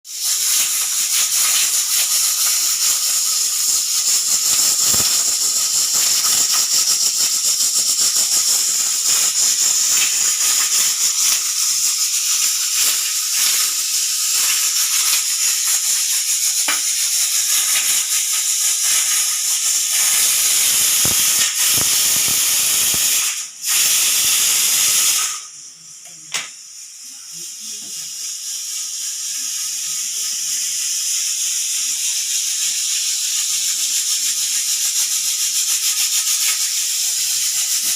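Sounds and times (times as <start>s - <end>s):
pressure cooker whistle hissing: 0.0s - 37.9s.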